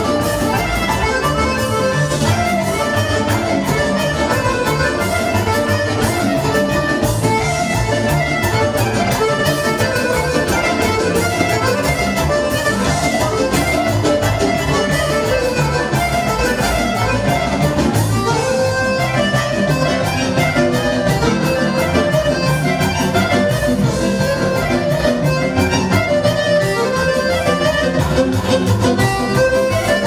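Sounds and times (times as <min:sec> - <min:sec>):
accordion: 0:00.0 - 0:30.0
folk band playing: 0:00.0 - 0:30.0.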